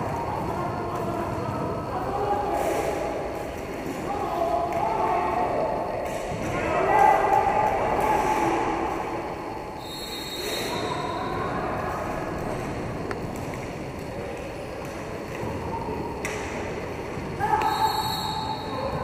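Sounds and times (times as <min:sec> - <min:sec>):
skate wheels rolling on rink floor: 0:00.0 - 0:19.0.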